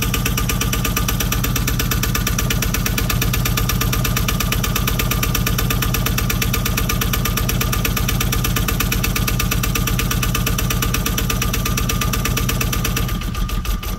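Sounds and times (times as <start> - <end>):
boat engine idling with knocking: 0.0 - 13.9.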